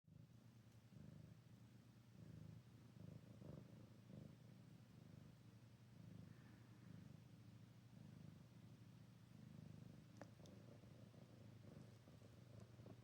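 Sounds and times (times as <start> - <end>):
cat purring: 0.1 - 13.0.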